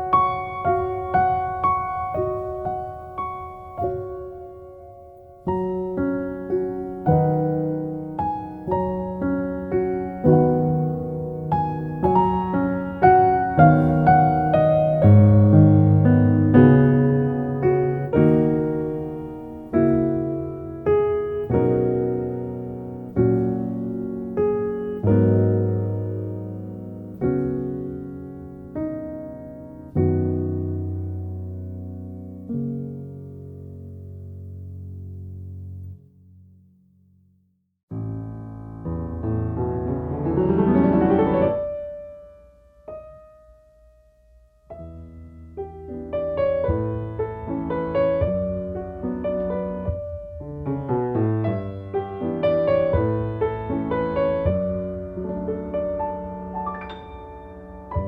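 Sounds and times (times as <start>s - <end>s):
slow piano chords: 0.0s - 37.3s, 37.9s - 58.0s.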